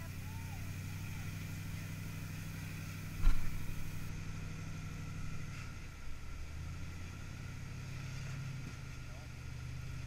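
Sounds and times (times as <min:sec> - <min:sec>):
buggy engine running at low revs: 0:00.0 - 0:10.0.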